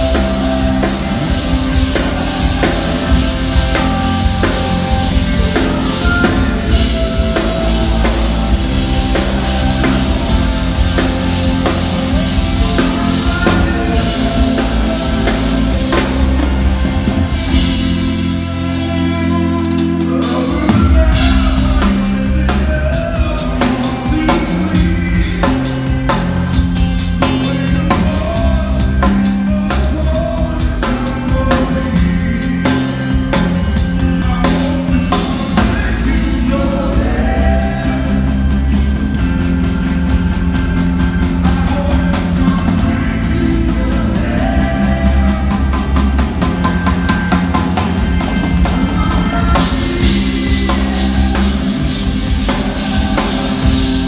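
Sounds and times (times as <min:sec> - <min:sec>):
man singing: 0:00.0 - 0:39.7, 0:41.0 - 0:54.0
drum kit steady beat: 0:00.0 - 0:54.0
electric guitar and bass: 0:00.0 - 0:54.0.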